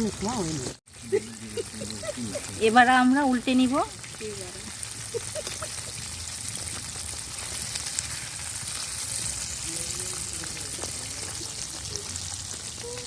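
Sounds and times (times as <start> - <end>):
chicken deep-frying in oil: 0.0 - 13.0
oil popping: 0.0 - 13.0.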